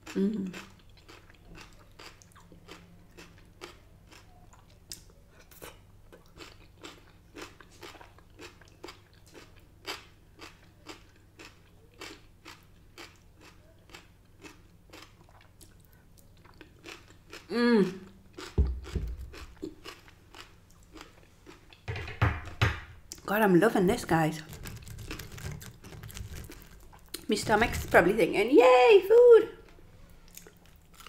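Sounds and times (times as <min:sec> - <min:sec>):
chewing crispy fried food: 0:00.0 - 0:21.8, 0:23.9 - 0:28.2, 0:29.6 - 0:31.0.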